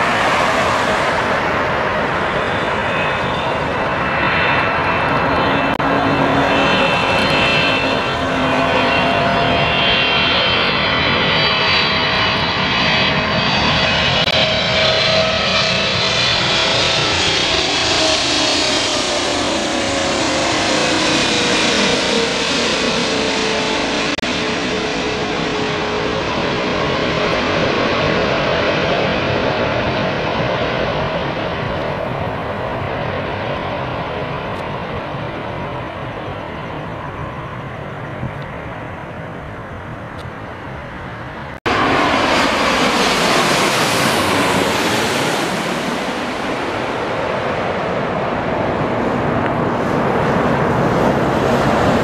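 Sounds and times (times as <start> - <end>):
jet engine rushing: 0.0 - 52.0.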